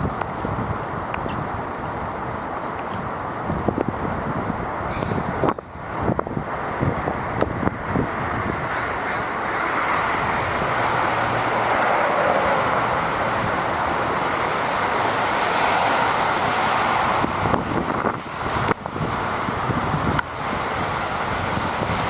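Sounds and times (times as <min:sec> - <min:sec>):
traffic hiss on wet road: 0:00.0 - 0:22.0.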